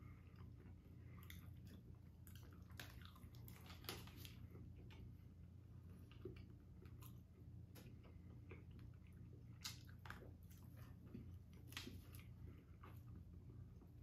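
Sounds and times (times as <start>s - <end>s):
low steady hum: 0.0s - 14.0s
people chewing: 0.0s - 14.0s.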